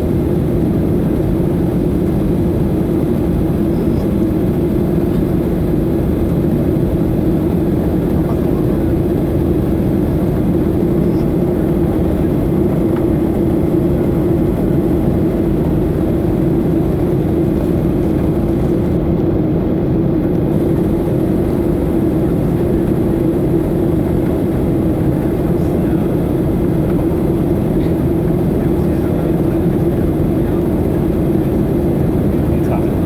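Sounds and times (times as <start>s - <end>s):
constant low hum: 0.0s - 33.0s
jet engines in flight: 0.0s - 33.0s.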